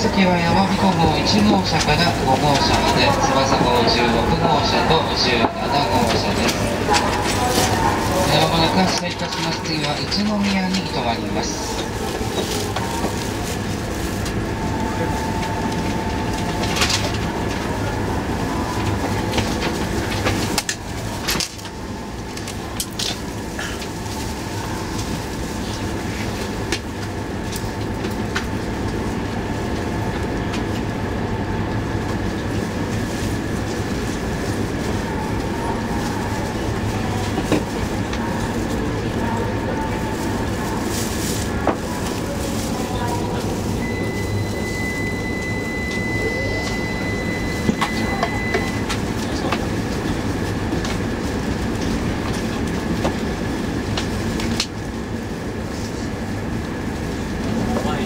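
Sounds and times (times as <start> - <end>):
train rumble inside passenger car: 0.0 - 58.0.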